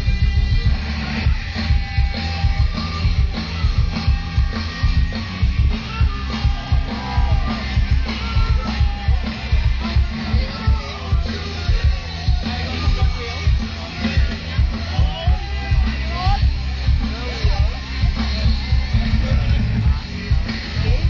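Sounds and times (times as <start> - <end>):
loud rock music: 0.0 - 21.0.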